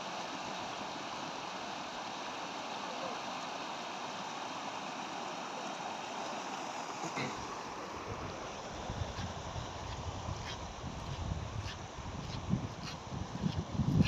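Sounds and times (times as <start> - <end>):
river rushing: 0.0 - 12.3.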